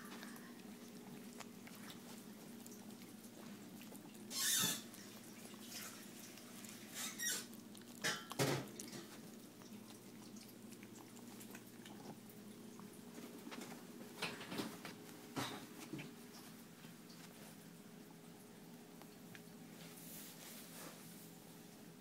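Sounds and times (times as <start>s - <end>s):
cats chewing and licking: 0.0s - 22.0s
low steady hum: 0.0s - 22.0s.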